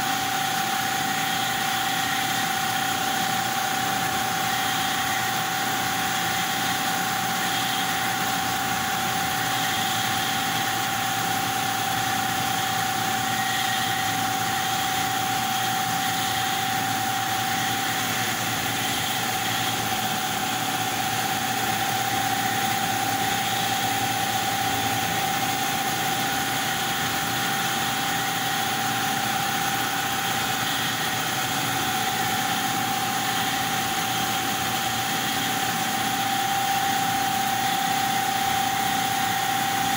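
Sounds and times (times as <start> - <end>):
laser cutting machine running: 0.0 - 39.9.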